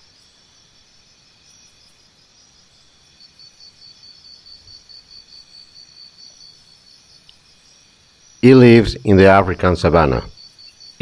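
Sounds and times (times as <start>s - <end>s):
high-pitched insect chirping: 0.0s - 11.0s.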